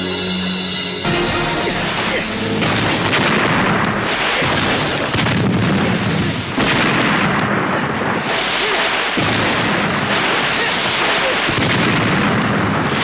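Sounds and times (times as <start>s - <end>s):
explosions: 1.1s - 13.0s.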